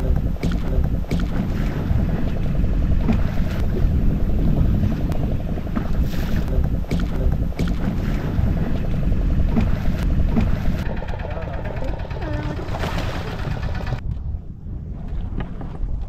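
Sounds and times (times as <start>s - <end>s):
boat engine running: 0.0s - 14.0s
wind buffeting microphone: 0.0s - 16.0s.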